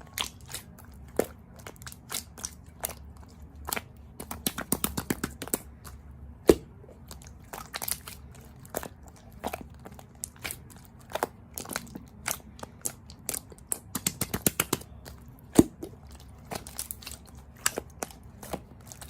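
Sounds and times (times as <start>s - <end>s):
crunchy food being chewed: 0.0s - 19.0s.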